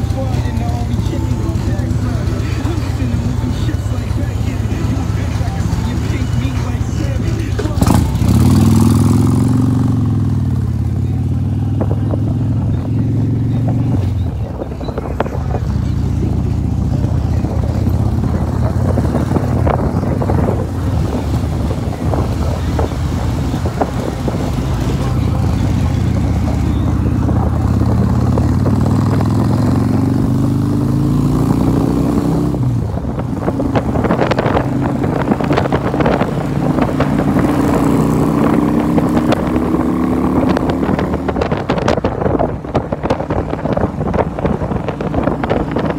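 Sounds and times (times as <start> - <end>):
motorcycle engine: 0.0 - 45.9
rushing wind: 0.0 - 45.9.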